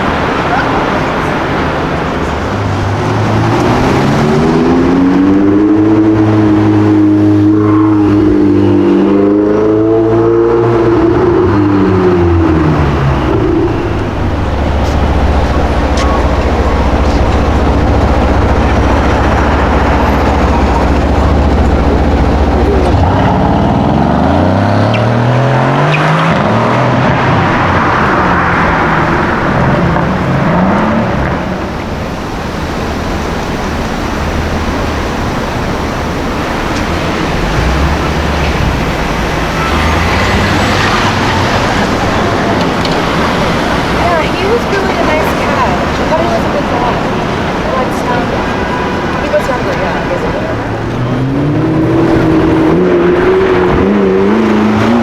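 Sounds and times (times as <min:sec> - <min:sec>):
car engine idling: 0:00.0 - 0:09.3, 0:10.0 - 0:24.5, 0:27.0 - 0:55.0
car engine revving: 0:00.0 - 0:55.0.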